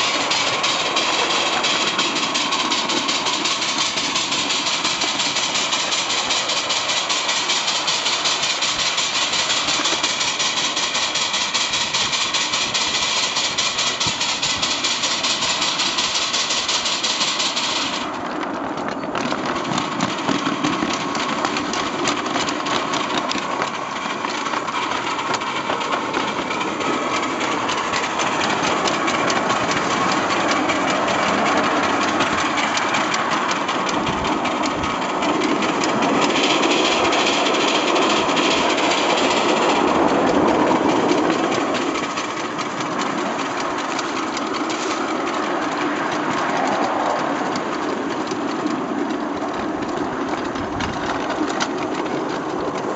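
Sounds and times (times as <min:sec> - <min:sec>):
steam locomotive chuffing: 0:00.0 - 0:52.9
wheels clattering on rails: 0:00.0 - 0:52.9.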